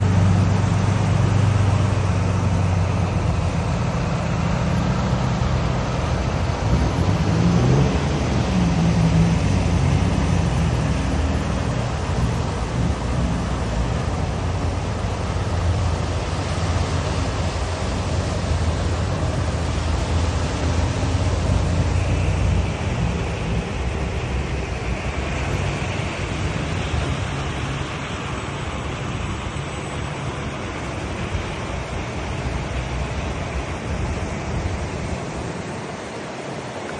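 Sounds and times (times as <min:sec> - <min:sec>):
continuous low rumble: 0:00.0 - 0:36.9
heavy rain pouring: 0:00.0 - 0:36.9.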